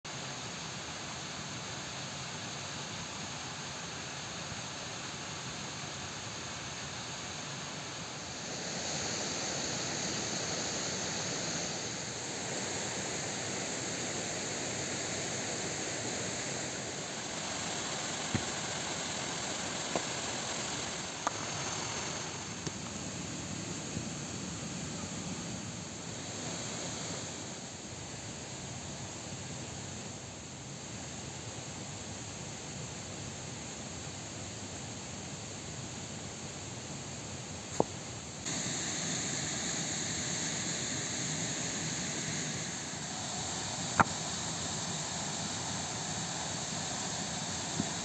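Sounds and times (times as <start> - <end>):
steady rushing outdoor noise: 0.2 - 32.4, 37.8 - 48.0.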